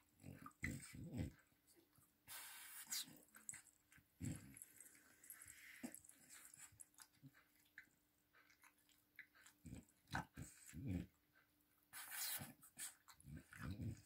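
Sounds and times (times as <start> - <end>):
small dog making faint sounds: 0.0 - 14.0.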